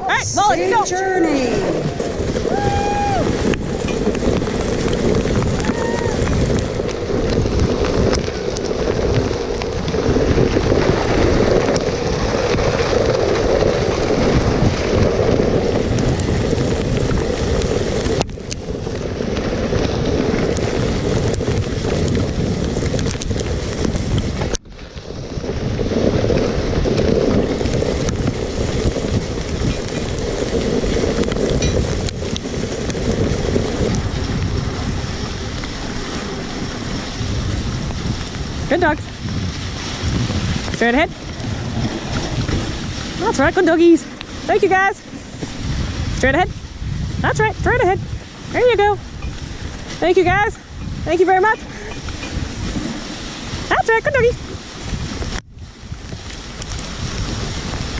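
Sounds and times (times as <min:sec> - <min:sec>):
sled runners sliding over snow: 0:00.0 - 0:57.9
wind buffeting microphone: 0:00.0 - 0:57.9.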